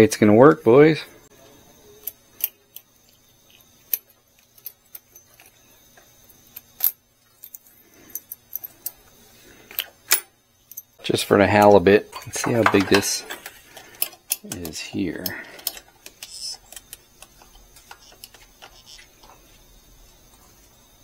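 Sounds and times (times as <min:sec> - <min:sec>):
small metal parts clinking: 0:02.0 - 0:11.0, 0:11.6 - 0:19.4.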